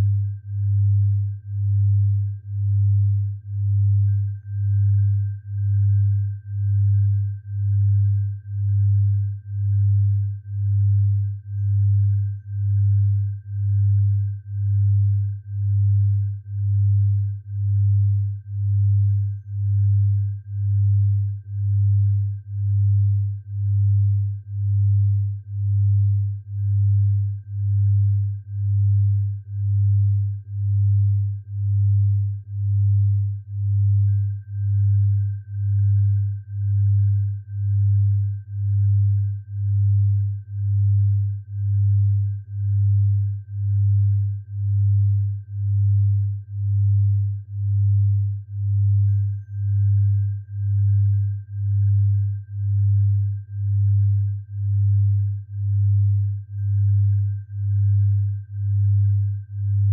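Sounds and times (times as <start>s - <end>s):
faint steady high tone: 0.0s - 59.9s
pulsing low sine tone: 0.0s - 59.9s.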